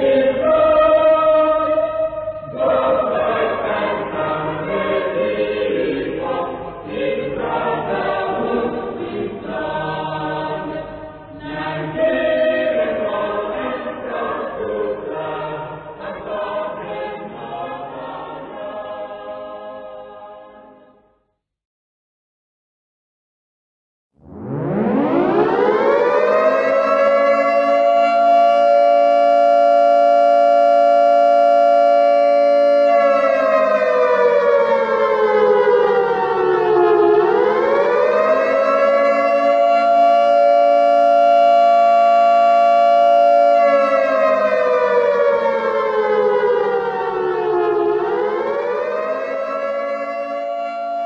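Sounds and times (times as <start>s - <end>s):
siren wailing: 0.0s - 17.1s, 24.2s - 51.0s.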